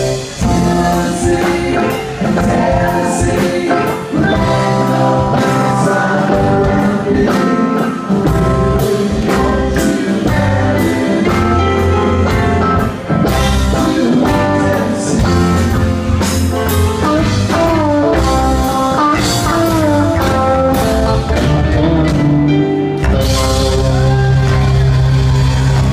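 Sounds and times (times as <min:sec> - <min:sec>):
electric guitar bending notes: 0:00.0 - 0:25.9
live rock band playing: 0:00.0 - 0:25.9.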